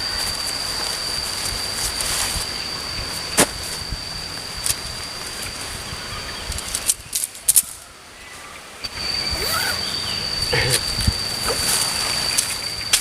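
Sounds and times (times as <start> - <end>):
insect droning: 0.0 - 13.0.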